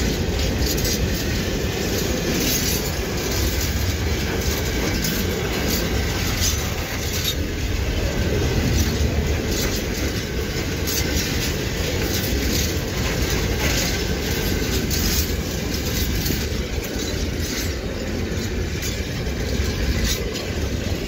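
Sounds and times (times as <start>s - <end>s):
clicking over rail joints: 0.0s - 21.0s
train wheels rumbling on rails: 0.0s - 21.0s.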